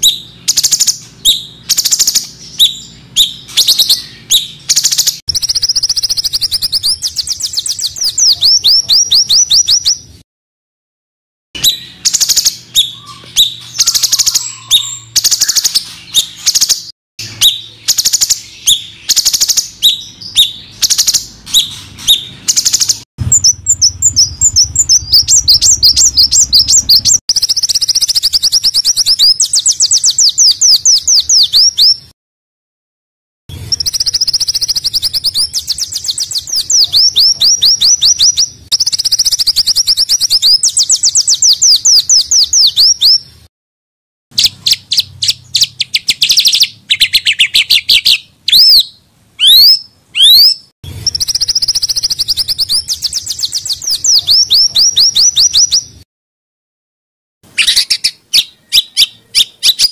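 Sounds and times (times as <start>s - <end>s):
songbirds harsh chirping: 0.0s - 10.2s, 11.6s - 32.1s, 33.5s - 43.5s, 44.3s - 56.0s, 57.4s - 59.9s.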